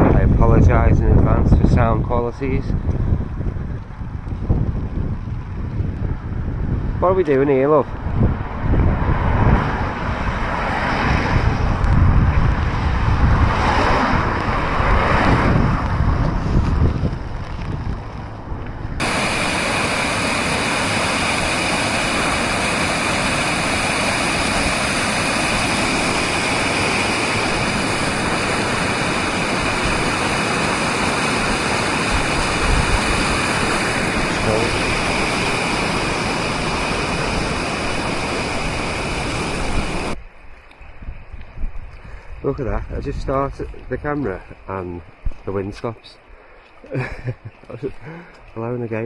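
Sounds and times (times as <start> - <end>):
steady rushing noise: 0.0 - 46.4
gusting wind on microphone: 0.0 - 49.0.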